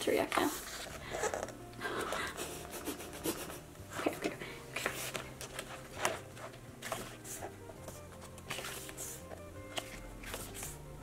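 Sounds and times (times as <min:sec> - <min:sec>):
book pages turning: 0:00.2 - 0:03.6, 0:04.2 - 0:10.9.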